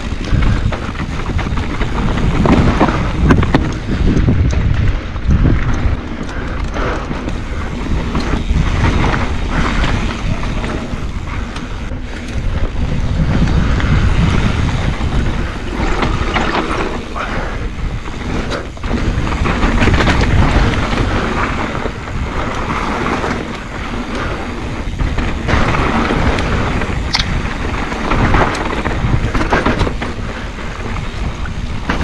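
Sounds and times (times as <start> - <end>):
tyre rumble on dirt: 0.0 - 6.1, 6.8 - 32.0
bike knocks and rattles: 0.0 - 32.0
wind buffeting microphone: 0.0 - 32.0.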